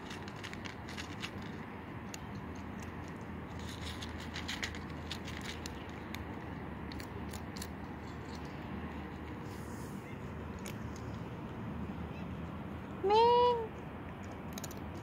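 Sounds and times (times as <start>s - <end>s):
cat crunching dry kibble: 0.0s - 9.6s, 10.2s - 11.8s, 14.0s - 15.0s
low background hum: 0.0s - 15.0s.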